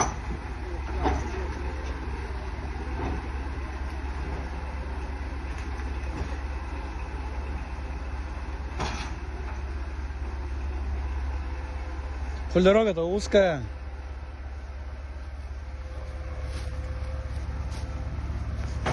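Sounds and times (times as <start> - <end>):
road noise: 0.0 - 18.9
vehicle engine rumbling: 0.0 - 18.9.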